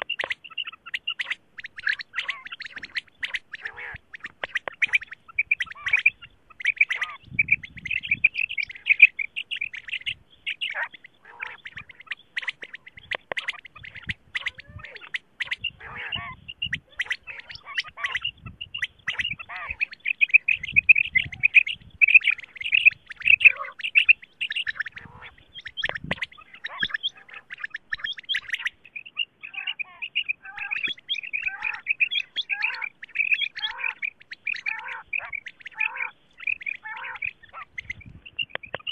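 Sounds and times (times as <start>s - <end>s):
quail calling: 0.0s - 38.9s.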